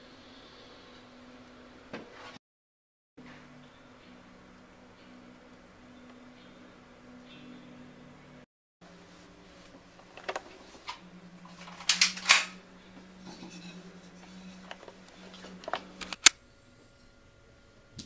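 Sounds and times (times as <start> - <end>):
steady low hum: 3.2 - 18.0.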